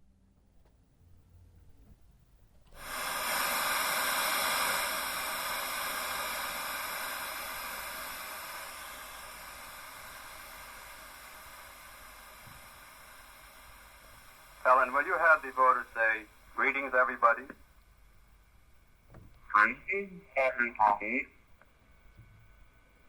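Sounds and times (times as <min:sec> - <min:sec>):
steady static hiss: 0:01.3 - 0:23.0.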